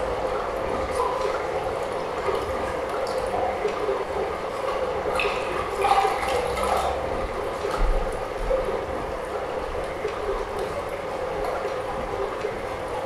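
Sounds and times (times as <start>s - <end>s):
liquid sloshing and trickling: 0.2s - 13.0s.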